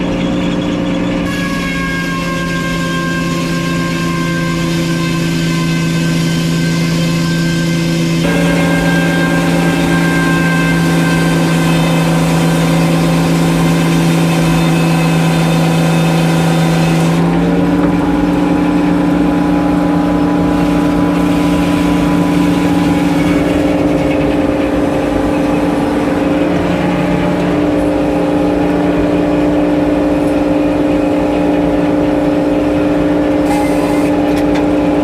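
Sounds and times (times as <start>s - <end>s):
sawmill engine running: 0.0s - 35.0s.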